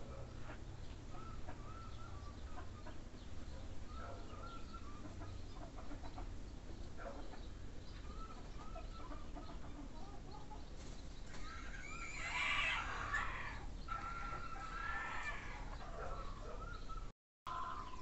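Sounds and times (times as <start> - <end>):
birds clucking and chirping: 0.0 - 18.0.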